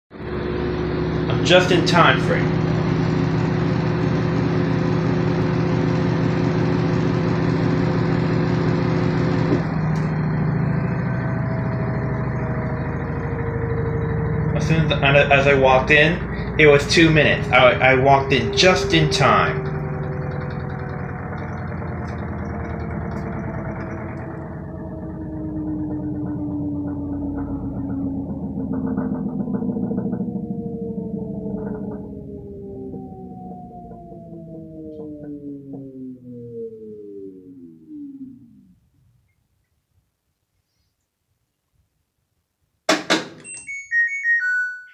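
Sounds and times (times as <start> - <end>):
washing machine motor hum: 0.1 - 38.9
steady machine tones: 0.2 - 38.9.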